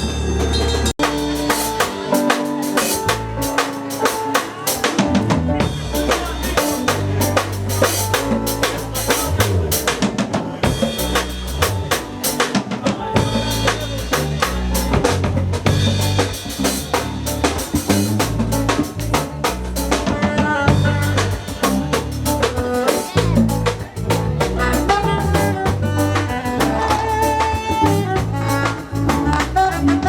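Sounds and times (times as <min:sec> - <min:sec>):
deep bass notes: 0:00.0 - 0:04.0, 0:05.0 - 0:12.4, 0:13.2 - 0:30.0
drum kit fast beat: 0:00.0 - 0:30.0.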